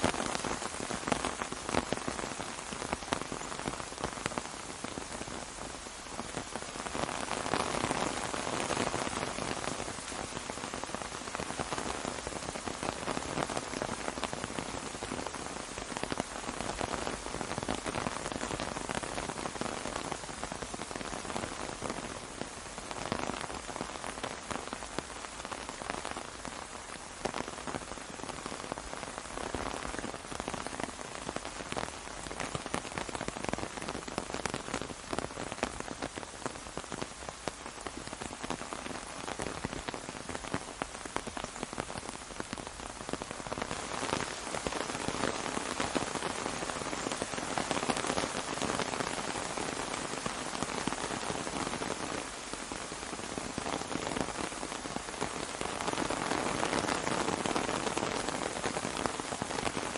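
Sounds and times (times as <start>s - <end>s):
rain drumming on an umbrella: 0.0s - 59.9s.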